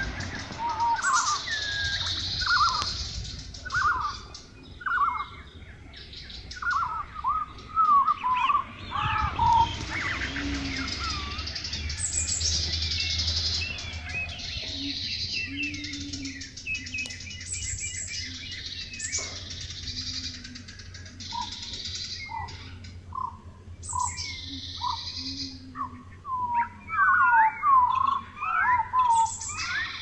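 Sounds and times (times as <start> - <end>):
low steady rumble: 0.0 - 30.0
songbirds chirping and trilling: 0.0 - 30.0.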